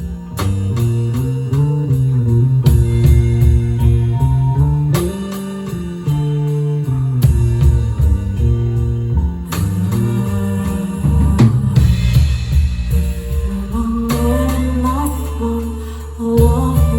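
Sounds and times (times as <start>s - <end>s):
drum hits: 0.0s - 6.2s, 7.2s - 14.9s
bass notes: 0.0s - 16.9s.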